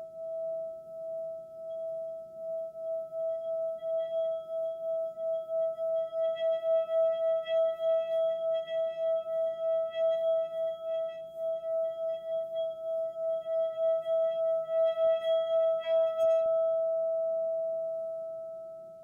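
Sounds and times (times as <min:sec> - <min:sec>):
sustained ringing tone: 0:00.0 - 0:18.8.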